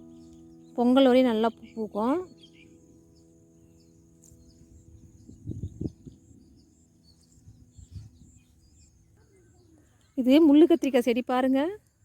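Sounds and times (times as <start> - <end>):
bird chirps: 0.0 - 11.6.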